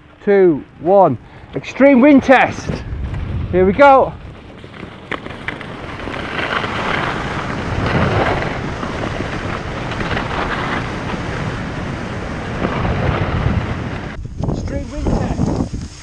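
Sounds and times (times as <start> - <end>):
wind rushing over microphone: 1.1 - 16.0
skis scraping over snow: 1.6 - 16.0.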